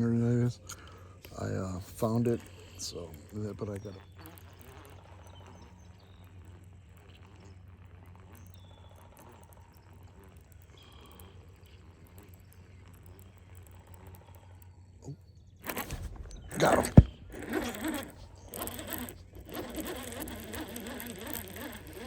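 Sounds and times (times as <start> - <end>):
faint low hum: 0.0 - 22.0
fishing reel ticking: 0.0 - 22.0.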